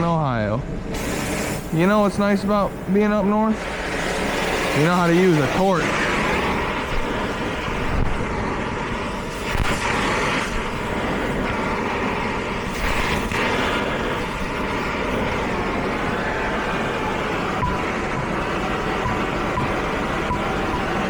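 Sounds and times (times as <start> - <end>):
gas torch flame rushing: 0.7 - 21.0.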